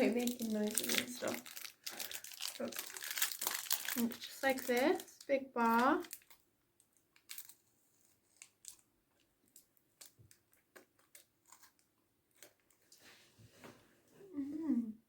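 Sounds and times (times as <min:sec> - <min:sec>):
wrapper crinkling: 0:00.0 - 0:12.8.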